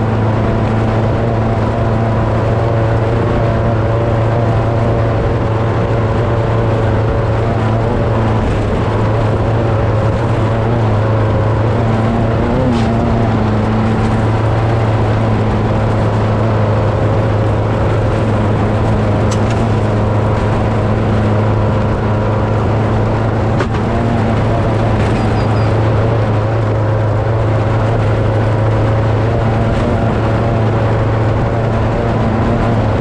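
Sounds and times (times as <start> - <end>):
road noise: 0.0 - 33.0
vehicle engine droning: 0.0 - 33.0.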